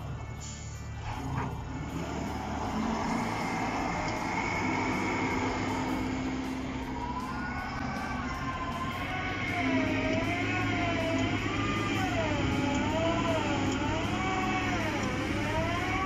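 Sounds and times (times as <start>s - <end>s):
high whine: 0.0s - 16.0s
tractor diesel engine under load: 0.0s - 16.0s
wavering high tones: 1.7s - 16.0s.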